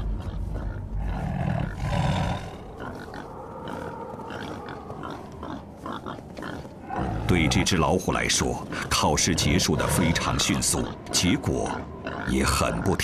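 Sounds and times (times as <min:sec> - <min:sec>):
loud low animal calls: 0:00.0 - 0:13.0.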